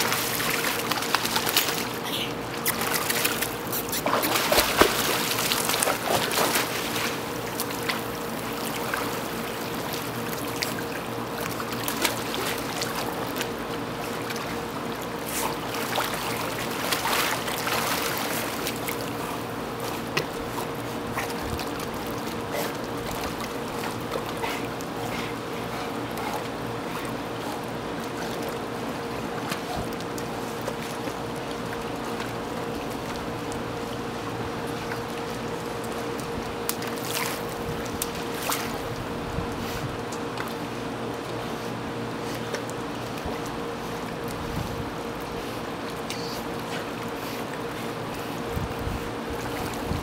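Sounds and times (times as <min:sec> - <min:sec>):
dogs splashing in pool water: 0:00.0 - 0:50.0
steady low hum: 0:00.0 - 0:50.0.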